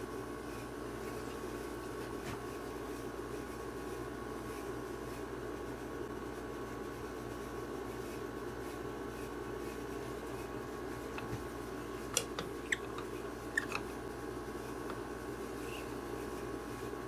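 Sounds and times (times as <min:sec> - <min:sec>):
low shop hum: 0:00.0 - 0:17.0.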